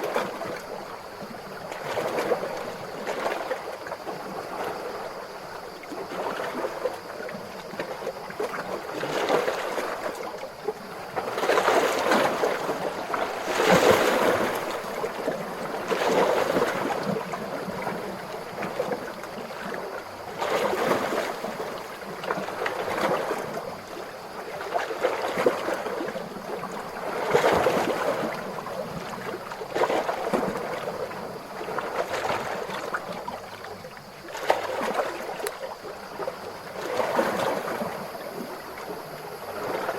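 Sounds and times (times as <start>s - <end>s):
ocean waves lapping on shore: 0.0s - 39.9s.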